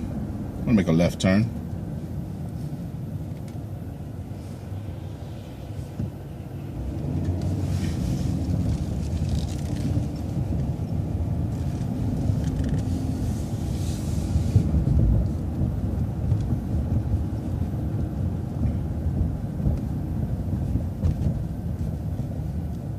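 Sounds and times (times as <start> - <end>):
bus engine and road rumble: 0.0 - 22.9.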